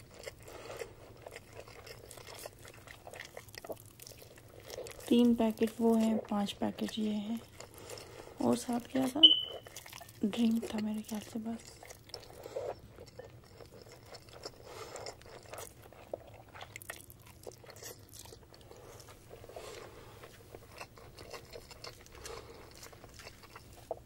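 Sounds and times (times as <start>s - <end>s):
man chewing noodles: 0.0s - 24.0s.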